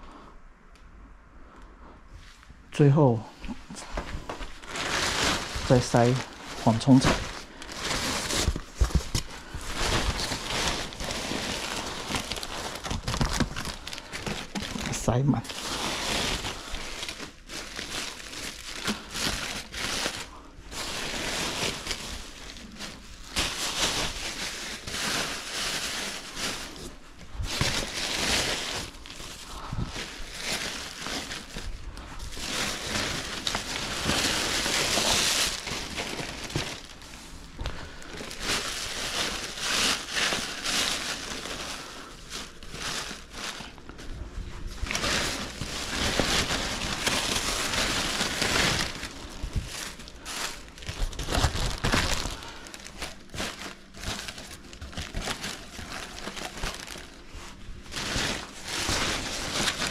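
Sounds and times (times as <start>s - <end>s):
packing material crinkling: 2.8s - 59.9s.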